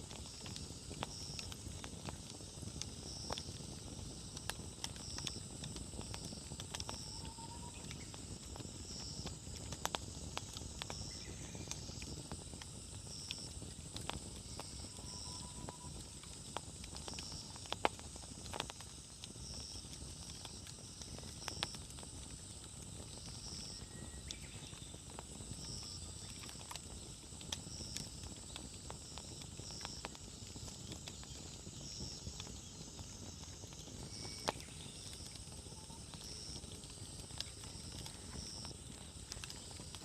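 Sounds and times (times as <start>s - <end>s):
campfire flames rumbling: 0.0s - 40.0s
fire crackling and popping: 0.0s - 40.0s
steady high hiss: 0.0s - 40.0s.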